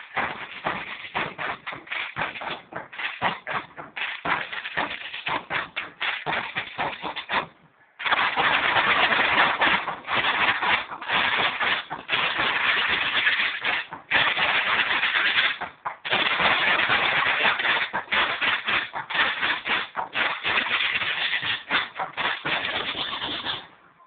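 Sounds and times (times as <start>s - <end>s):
bass drums and snare drums: 0.0s - 23.7s.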